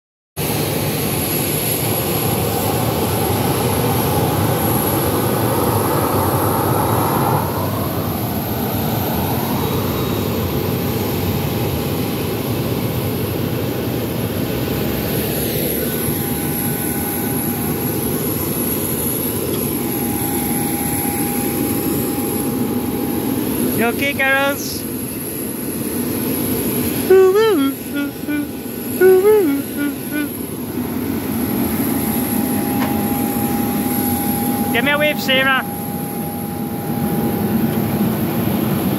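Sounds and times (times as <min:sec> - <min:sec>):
jet engines whining: 0:00.4 - 0:38.9.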